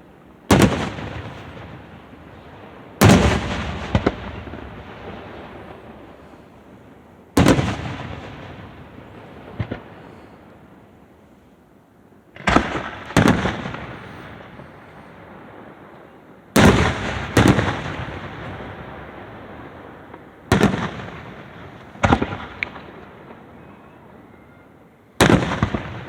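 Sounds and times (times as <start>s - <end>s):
fireworks booming with echo: 0.0s - 11.1s, 12.3s - 26.0s.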